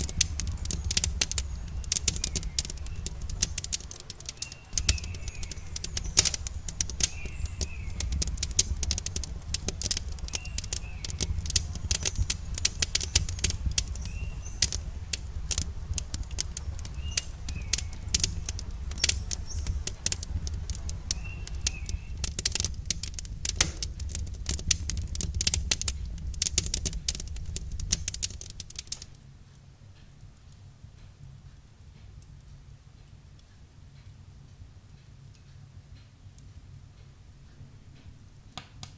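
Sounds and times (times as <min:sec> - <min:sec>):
campfire crackling and popping: 0:00.0 - 0:37.1, 0:37.9 - 0:38.9.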